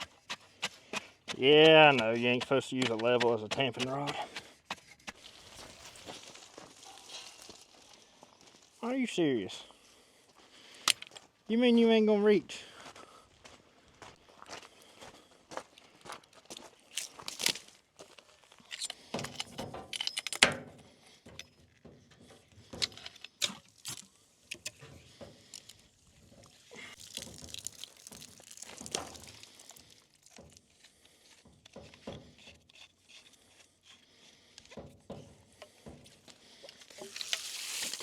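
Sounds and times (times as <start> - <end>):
dirt and concrete being packed: 0.0 - 9.5, 15.9 - 38.0.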